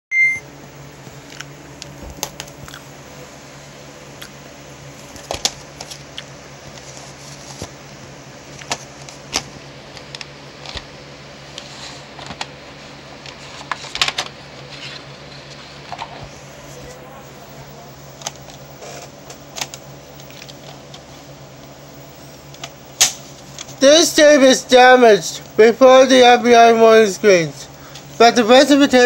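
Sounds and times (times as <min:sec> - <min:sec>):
steady low hum: 0:00.2 - 0:29.0.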